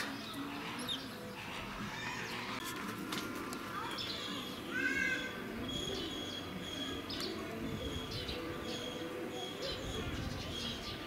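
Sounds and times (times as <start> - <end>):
low background murmur: 0.0 - 11.0.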